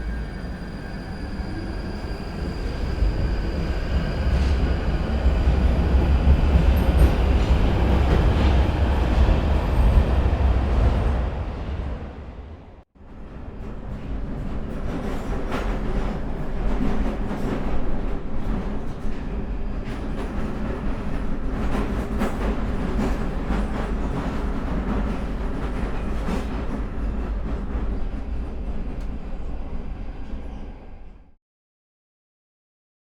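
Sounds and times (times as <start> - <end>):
underground train rumbling: 0.0 - 31.3.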